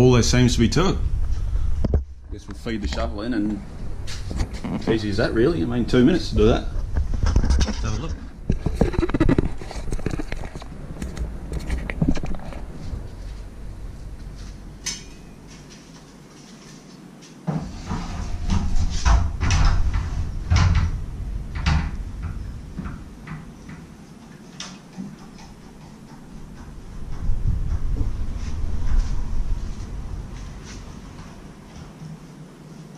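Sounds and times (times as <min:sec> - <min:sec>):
low rumble: 0:00.0 - 0:15.6, 0:17.7 - 0:24.0, 0:26.3 - 0:32.0.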